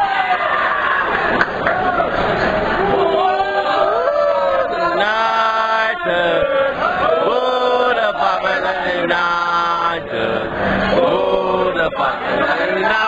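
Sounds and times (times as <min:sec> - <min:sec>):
crowd chanting: 0:01.9 - 0:13.0.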